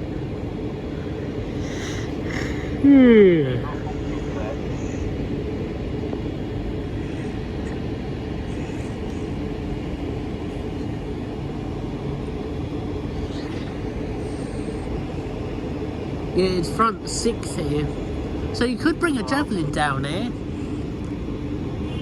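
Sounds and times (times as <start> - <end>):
train equipment humming: 0.0 - 22.0.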